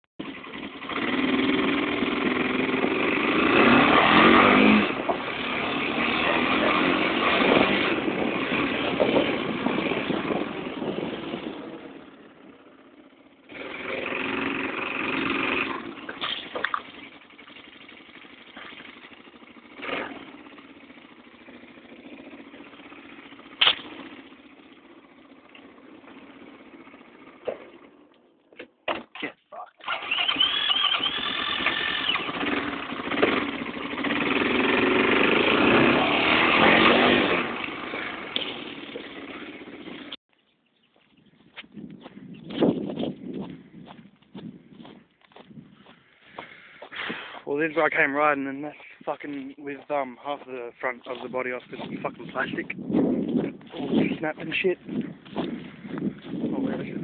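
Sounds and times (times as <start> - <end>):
quad bike engine running: 0.2 - 28.4, 29.8 - 40.2, 41.9 - 57.0.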